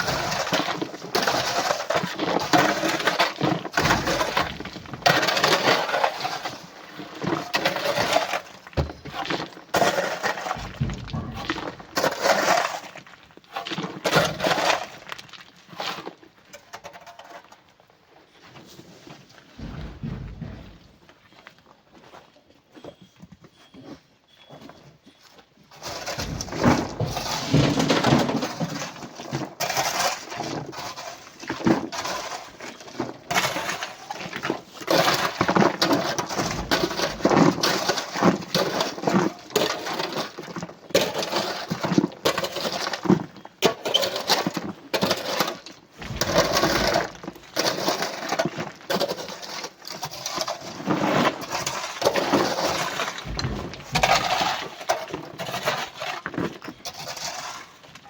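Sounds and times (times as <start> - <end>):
rocks clattering into truck: 0.0 - 15.3, 19.4 - 21.6, 25.7 - 57.3.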